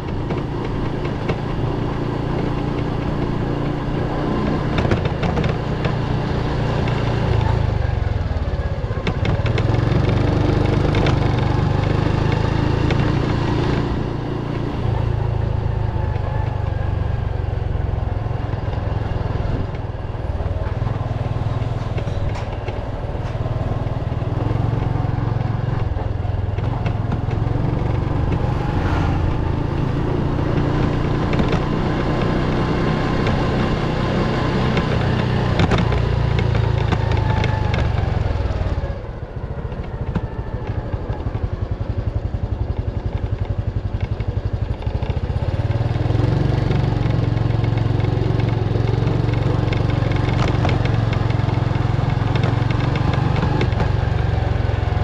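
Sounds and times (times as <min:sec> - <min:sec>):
small motorcycle engine running: 0:00.0 - 0:55.0.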